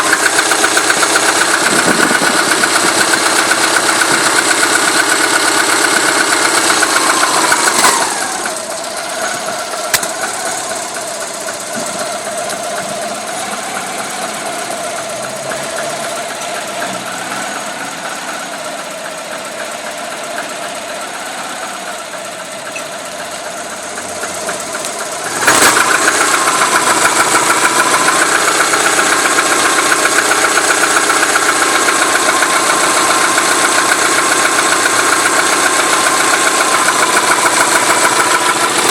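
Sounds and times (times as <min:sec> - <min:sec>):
engine running with a knock: 0:00.0 - 0:38.9.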